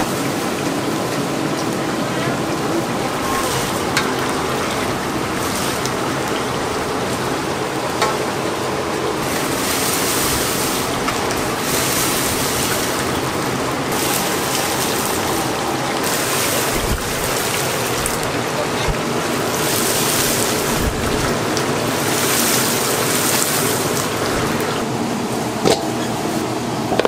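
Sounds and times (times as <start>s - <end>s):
oil sizzling while deep-frying: 0.0s - 26.8s.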